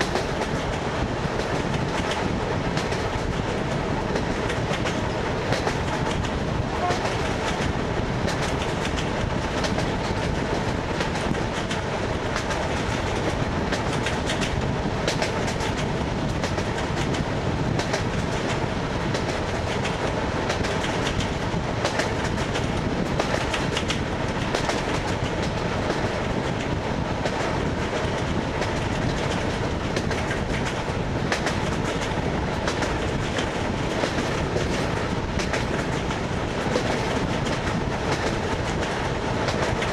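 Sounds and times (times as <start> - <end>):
train carriage rumble: 0.0 - 39.9
wheels clacking on rail joints: 0.0 - 39.9.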